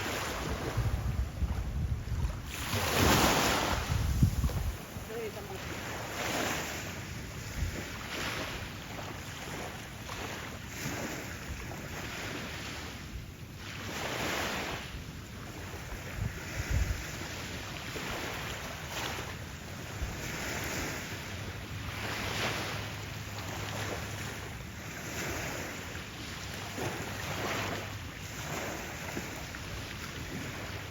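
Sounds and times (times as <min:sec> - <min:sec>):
waves washing onto sandy beach: 0:00.0 - 0:30.9
wind rumbling on microphone: 0:00.0 - 0:30.9.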